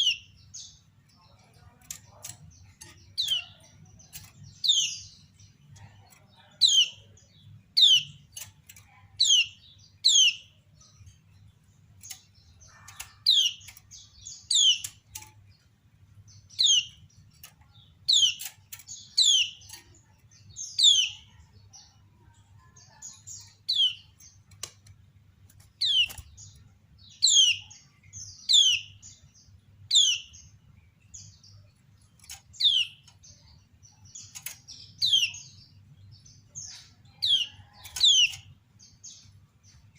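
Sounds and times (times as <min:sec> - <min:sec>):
bird giving sharp chirping calls: 0:00.0 - 0:10.8, 0:12.0 - 0:15.4, 0:16.4 - 0:21.5, 0:22.6 - 0:29.1, 0:31.5 - 0:35.8, 0:36.4 - 0:38.6.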